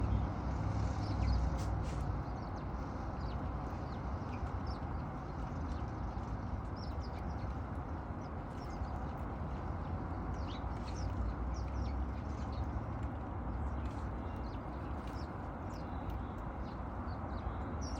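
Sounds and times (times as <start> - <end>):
birds chirping: 0.0 - 17.9
low background rumble: 0.0 - 17.9.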